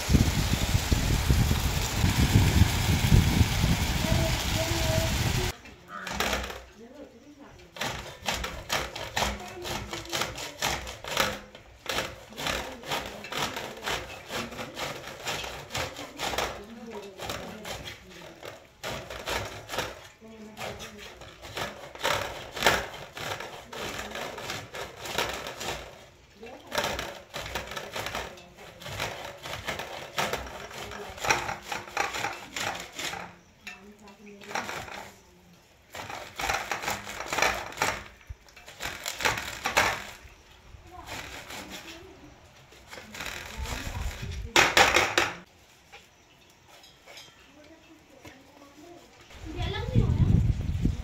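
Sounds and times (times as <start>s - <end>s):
corn rasping on grater: 0.0s - 6.8s, 7.6s - 46.0s.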